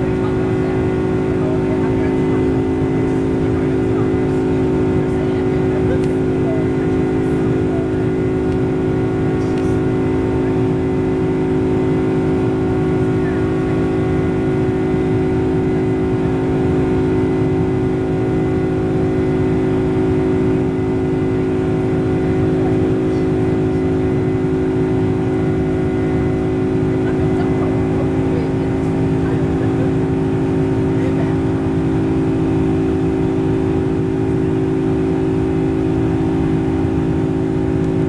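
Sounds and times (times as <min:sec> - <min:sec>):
jet engine drone: 0:00.0 - 0:38.0.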